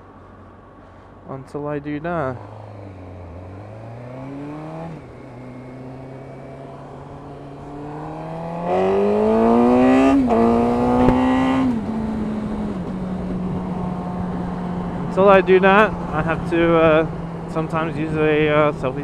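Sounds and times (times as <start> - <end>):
motorcycle engine accelerating: 2.2 - 19.0.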